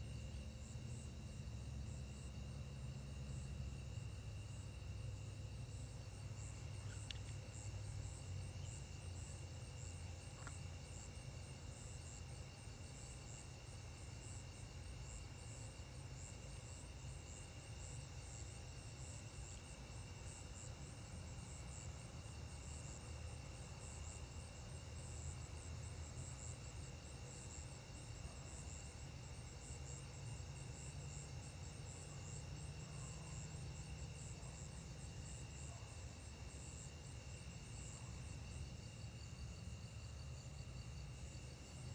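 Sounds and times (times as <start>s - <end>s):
crickets and insects trilling: 0.0s - 41.9s.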